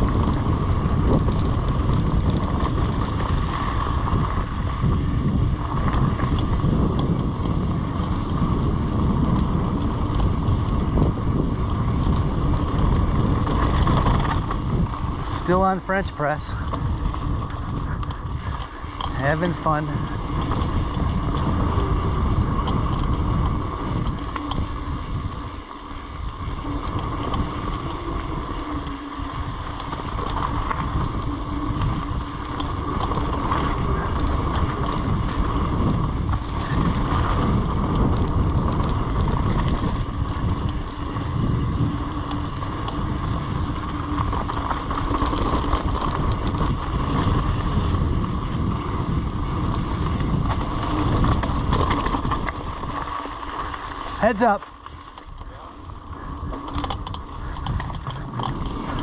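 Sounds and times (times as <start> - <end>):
bike rolling over dirt: 0.0 - 59.0
wind buffeting microphone: 0.0 - 59.0.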